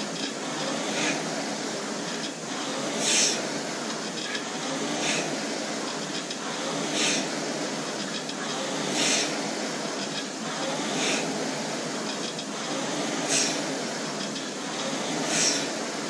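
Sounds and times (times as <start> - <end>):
rowing machine flywheel whirring: 0.0 - 16.0
surge of rushing air: 0.0 - 16.0.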